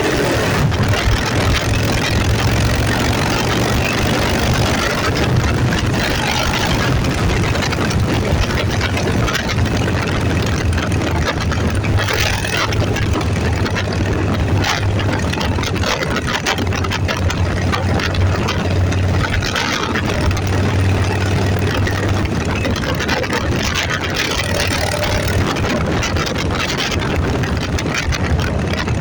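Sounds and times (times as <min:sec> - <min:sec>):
dense rushing noise: 0:00.0 - 0:29.0
vehicle engine running steadily: 0:00.0 - 0:29.0.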